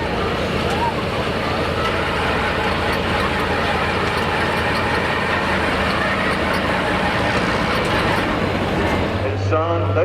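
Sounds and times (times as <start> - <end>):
tractor engine running loudly: 0.0 - 10.0.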